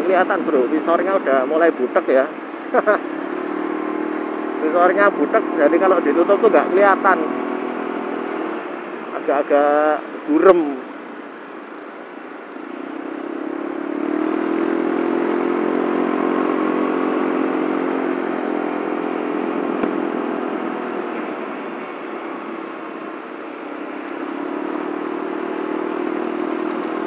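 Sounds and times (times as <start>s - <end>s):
scooter engine running: 0.0s - 10.2s, 11.0s - 27.0s.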